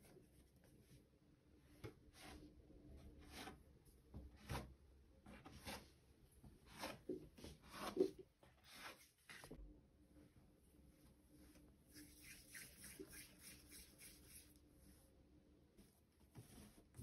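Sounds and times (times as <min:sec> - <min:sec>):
dough rubbed and scraped by hand: 0:00.0 - 0:09.6, 0:10.6 - 0:17.0.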